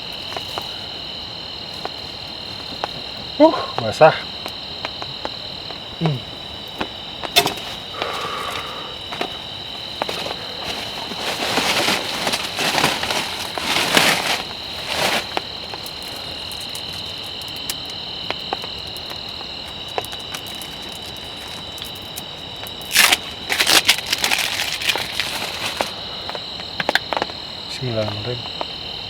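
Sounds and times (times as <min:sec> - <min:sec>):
rustling crackling noise: 0:00.0 - 0:28.6
crickets chirping: 0:00.0 - 0:29.0.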